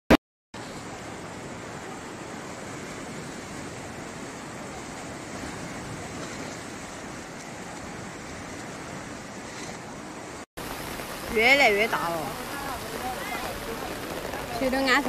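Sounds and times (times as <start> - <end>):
river water rushing: 0.6 - 15.0.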